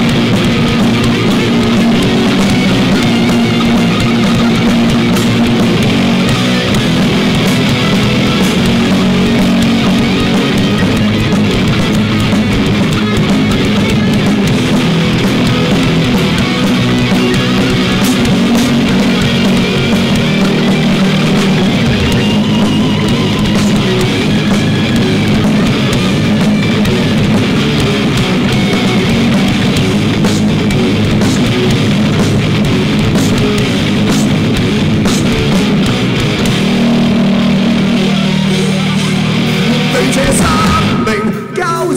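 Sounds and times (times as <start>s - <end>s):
drum kit: 0.0s - 41.9s
electric guitars: 0.0s - 41.9s.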